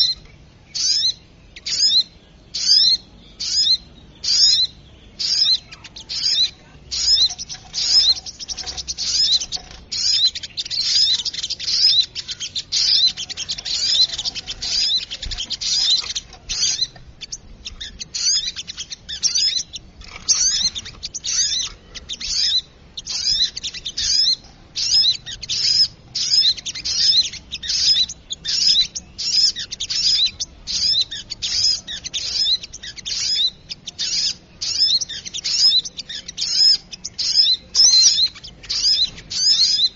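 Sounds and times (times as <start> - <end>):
high fast bird chirping: 0.0 - 39.9.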